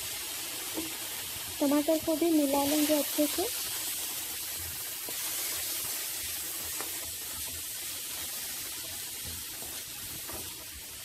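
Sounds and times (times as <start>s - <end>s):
onion sizzling in a frying pan: 0.0s - 11.0s.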